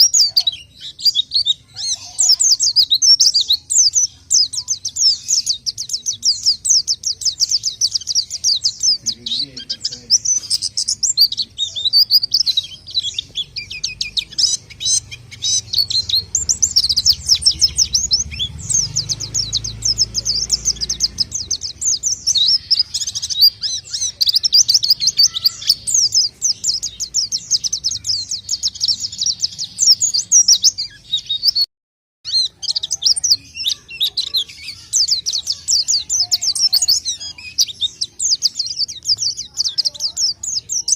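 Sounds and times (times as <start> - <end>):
bird twittering song: 0.0 - 40.9.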